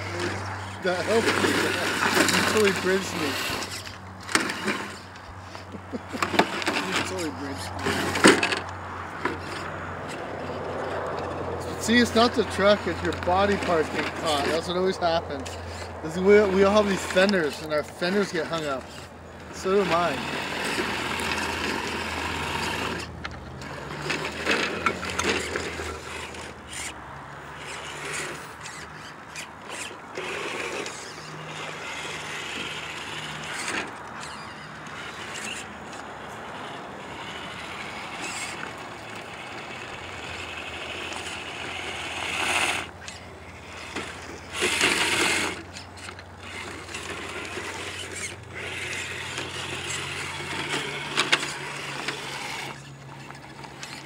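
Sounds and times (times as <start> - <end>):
electric motor whining: 0.0 - 54.0
tyres scraping over rock: 0.0 - 54.0.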